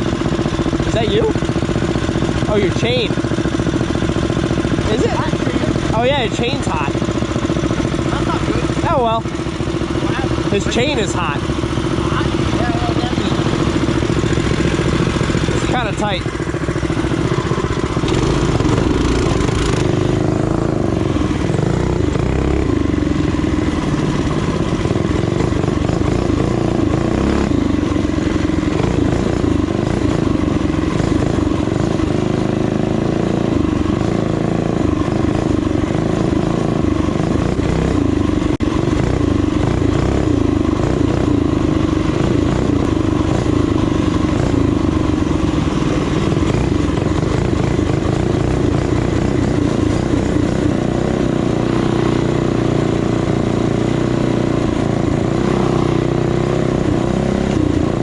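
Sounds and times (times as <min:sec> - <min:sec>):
small motorbike engine running: 0:00.0 - 0:58.0.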